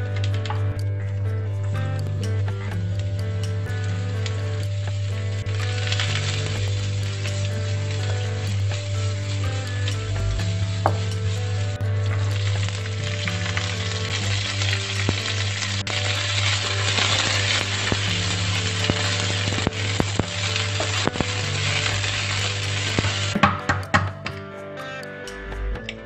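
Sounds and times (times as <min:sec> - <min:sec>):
vegetables sizzling in a wok: 0:00.0 - 0:23.6.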